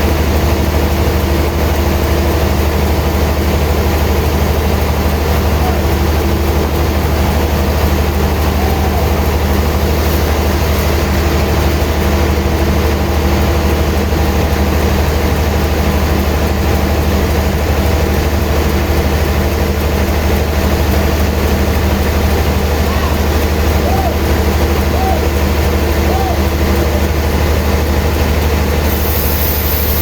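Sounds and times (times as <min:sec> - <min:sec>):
sawmill machinery humming: 0:00.0 - 0:30.0.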